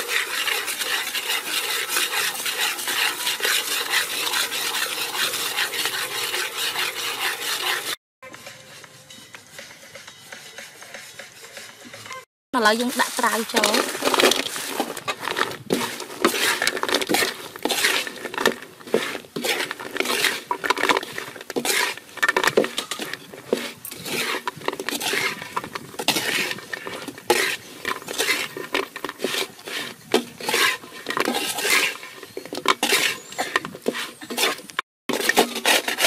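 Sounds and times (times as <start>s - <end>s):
metal ladle scraping a wok: 0.0s - 12.2s, 13.6s - 36.0s.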